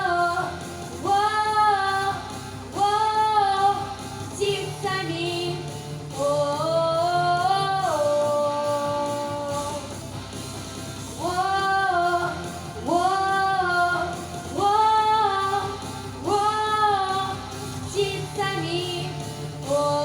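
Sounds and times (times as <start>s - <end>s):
girl singing: 0.0s - 10.0s, 11.2s - 20.0s.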